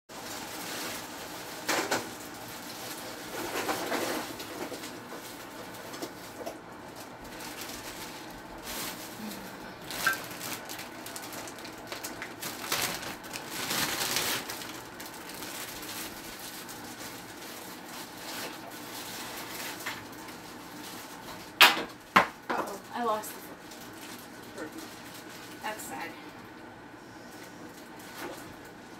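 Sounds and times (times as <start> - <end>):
plastic bag crinkling: 0.1 - 26.6, 27.3 - 28.9.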